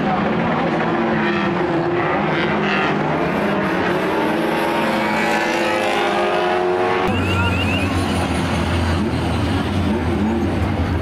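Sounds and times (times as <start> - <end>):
racing car engines revving hard: 0.0 - 11.0.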